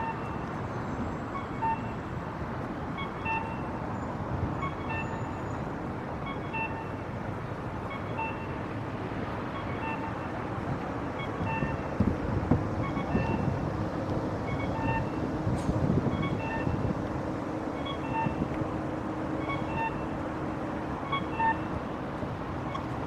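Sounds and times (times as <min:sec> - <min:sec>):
traffic and street noise: 0:00.0 - 0:23.0.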